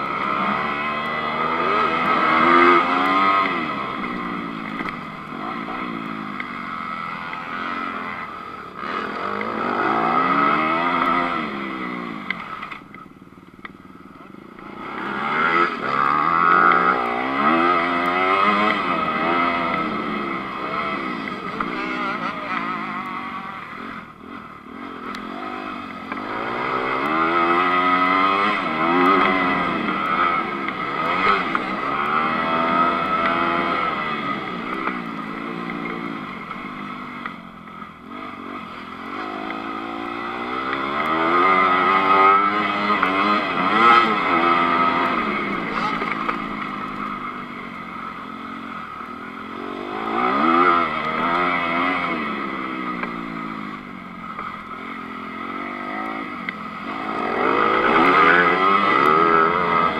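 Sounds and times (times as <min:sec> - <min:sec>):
motocross engine revving: 0:00.0 - 0:13.0, 0:14.2 - 0:59.9.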